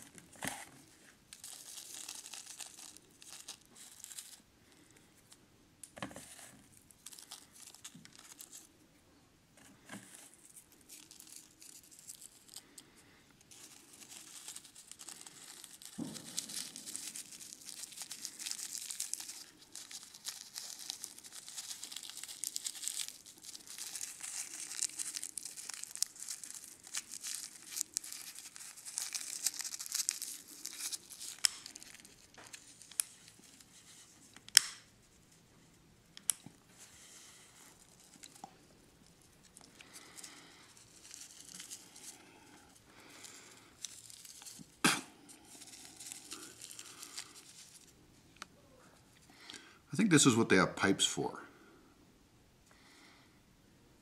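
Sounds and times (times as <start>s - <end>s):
rolling paper crinkling: 0.0s - 5.3s, 6.0s - 8.7s, 9.6s - 48.4s.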